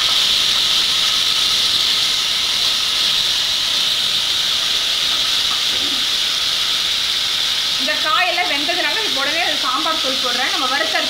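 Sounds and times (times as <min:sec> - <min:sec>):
oil sizzling with loud hiss: 0:00.0 - 0:11.0.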